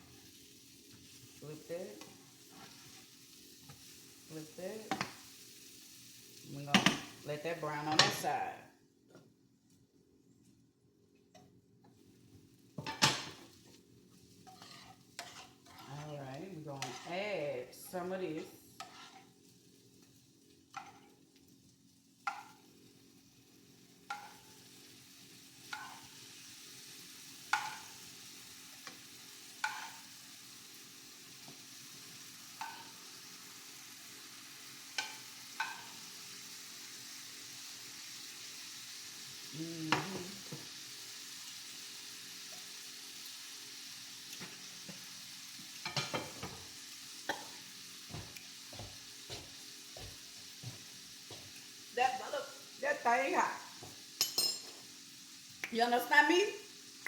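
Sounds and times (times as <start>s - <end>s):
food sizzling in a pan: 0.0s - 8.8s, 11.9s - 57.0s.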